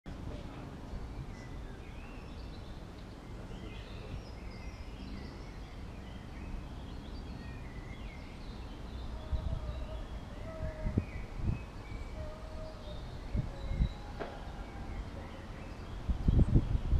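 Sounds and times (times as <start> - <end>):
birds singing and chirping: 0.1 - 16.9.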